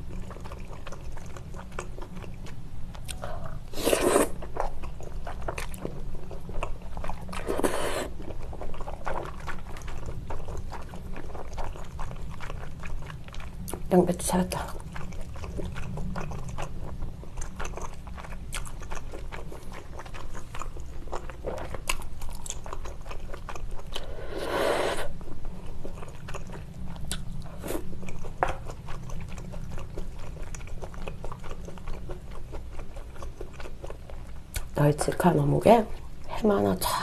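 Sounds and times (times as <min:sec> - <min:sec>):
chewing and biting food: 0:00.0 - 0:13.9, 0:14.6 - 0:34.8.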